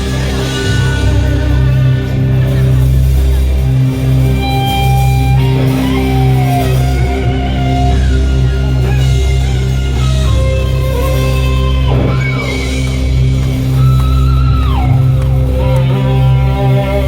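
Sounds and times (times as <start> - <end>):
electric guitar melody: 0.0 - 17.0
heavy bass: 0.0 - 17.0.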